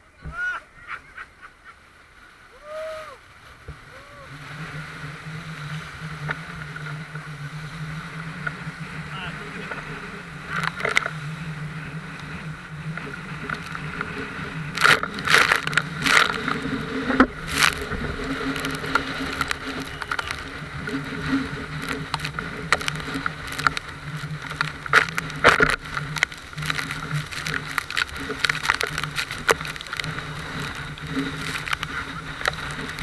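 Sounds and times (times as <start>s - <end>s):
rushing water and splashing: 0.0s - 33.0s
boat motor droning: 3.2s - 33.0s.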